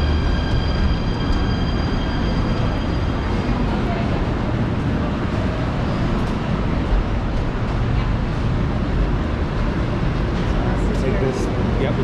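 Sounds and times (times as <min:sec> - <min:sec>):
metro train running: 0:00.0 - 0:12.0.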